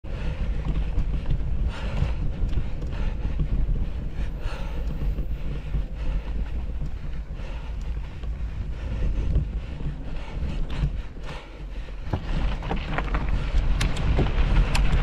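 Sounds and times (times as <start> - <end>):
bike rattles and tyre crunches: 0.0 - 15.0
deep steady rumble: 0.0 - 15.0
wind buffeting microphone: 0.0 - 15.0.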